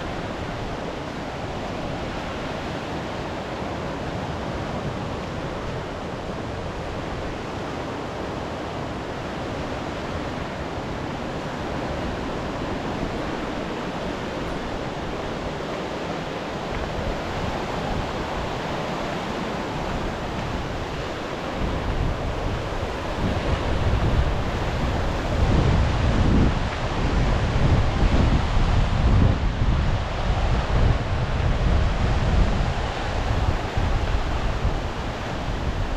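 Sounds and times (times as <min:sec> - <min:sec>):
waves washing onto shore: 0:00.0 - 0:35.9
wind buffeting microphone: 0:04.4 - 0:35.9.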